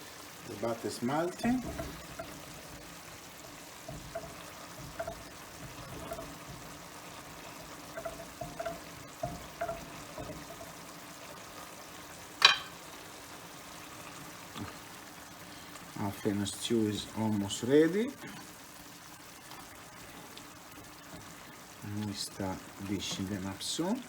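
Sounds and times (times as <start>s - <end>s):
butter sizzling in a frying pan: 0.0s - 24.0s.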